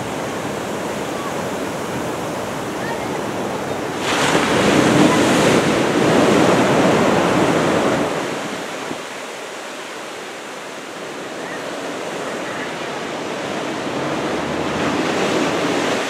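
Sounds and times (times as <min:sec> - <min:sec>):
wave breaking: 0:00.0 - 0:09.4, 0:10.1 - 0:16.0
heavy surf: 0:00.0 - 0:16.0.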